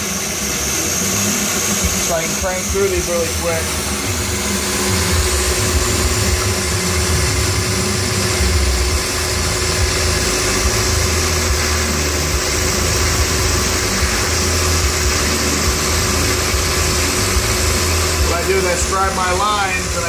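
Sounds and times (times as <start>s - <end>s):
milling machine running: 0.0s - 20.0s.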